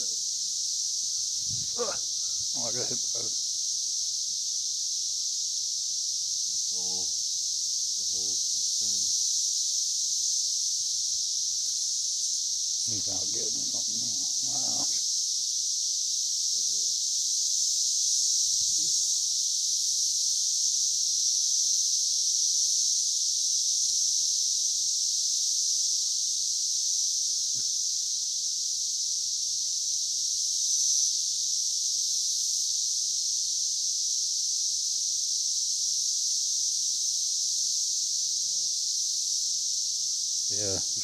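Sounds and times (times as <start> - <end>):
cicadas droning: 0.0 - 41.0.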